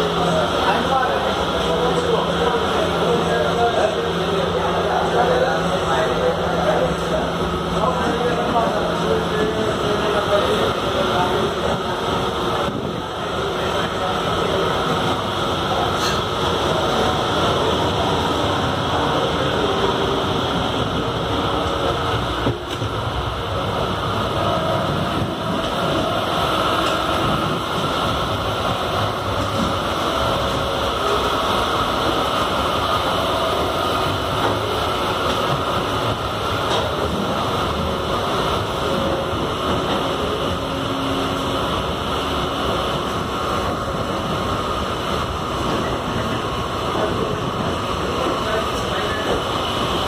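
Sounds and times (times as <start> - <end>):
train wheels on rails: 0.0 - 50.0.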